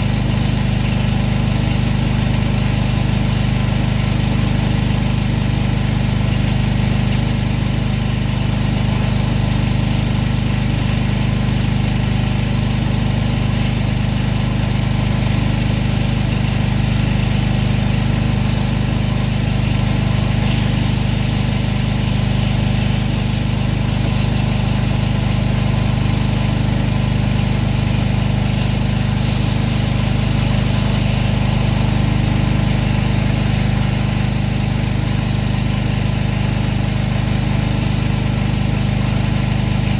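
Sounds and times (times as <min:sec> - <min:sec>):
pressure washer engine drone: 0:00.0 - 0:39.9
pressure washer hiss: 0:00.0 - 0:39.9.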